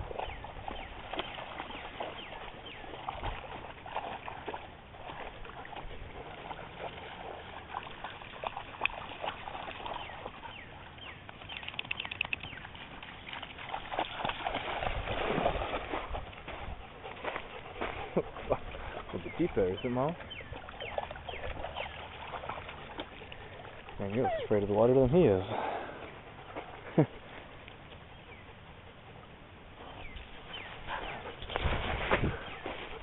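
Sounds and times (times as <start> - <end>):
dog splashing through water: 0.0 - 25.8, 30.2 - 33.0.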